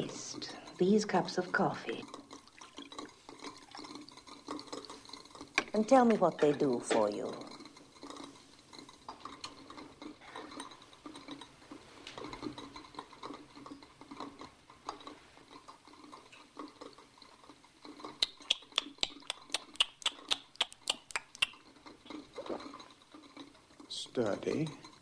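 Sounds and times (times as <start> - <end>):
clatter of cups and carafes: 0.0 - 20.4, 21.3 - 25.0.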